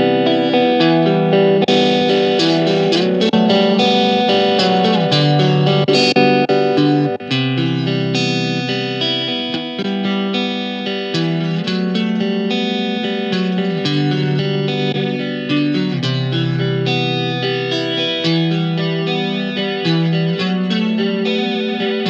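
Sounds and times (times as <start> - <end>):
electric guitar chords wavering: 0.0 - 22.0.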